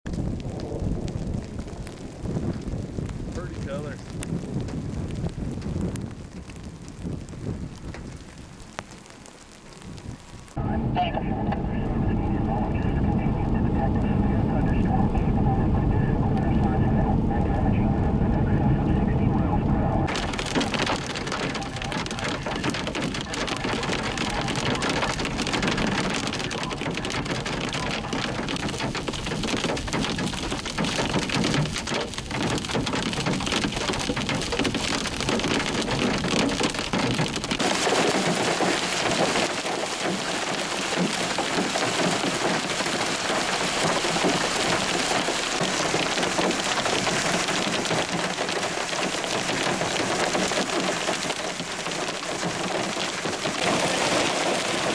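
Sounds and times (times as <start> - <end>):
hail and rain on pavement: 0.0 - 10.6, 20.1 - 54.9
road rumble: 0.0 - 54.9
hail pelting a vehicle: 0.1 - 15.6, 20.1 - 54.9.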